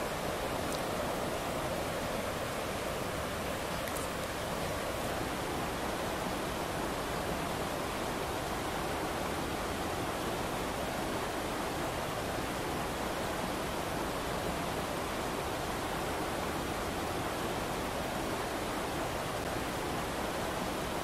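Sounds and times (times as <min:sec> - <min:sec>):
river rushing over rapids: 0:00.0 - 0:21.0.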